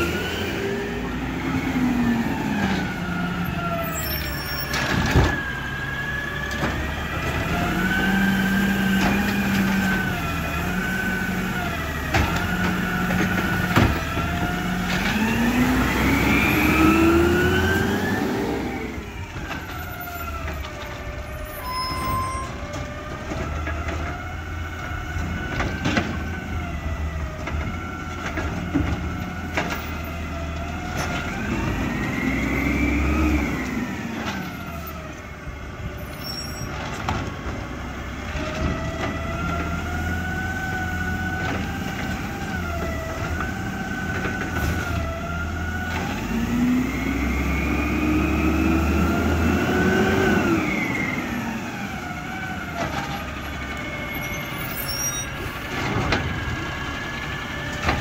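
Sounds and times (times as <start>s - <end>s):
garbage truck engine whine: 0.0s - 58.0s.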